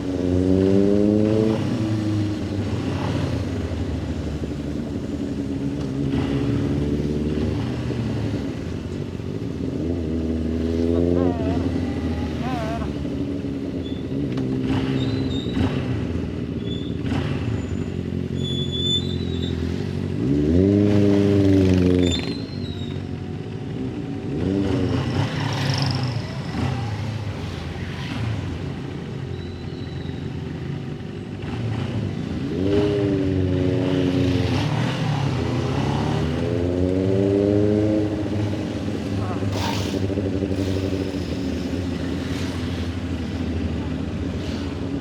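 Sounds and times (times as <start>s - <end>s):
motorcycle engine accelerating: 0.0s - 18.2s, 19.6s - 22.4s, 23.4s - 45.0s.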